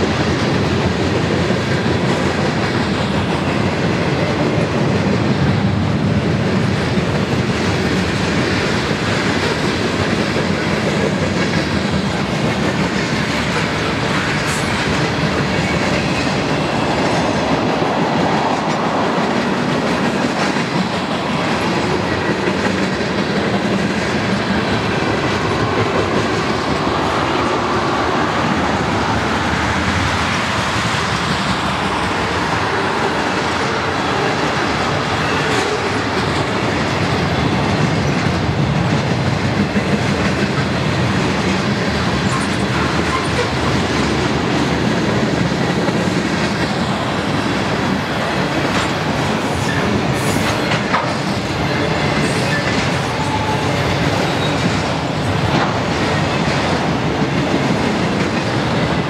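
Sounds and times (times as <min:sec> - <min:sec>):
steel wheels running on rails: 0:00.0 - 0:59.0.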